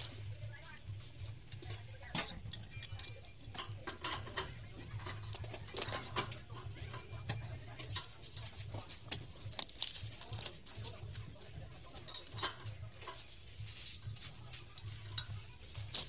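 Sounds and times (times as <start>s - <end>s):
screwdriver clicks and metal scrapes: 1.3s - 16.0s.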